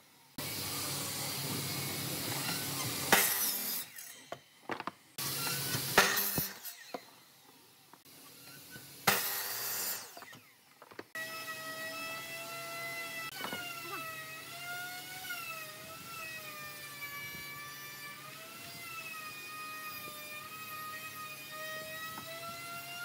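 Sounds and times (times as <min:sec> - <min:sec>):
miter saw cutting wood: 0:00.3 - 0:04.4, 0:05.2 - 0:23.0.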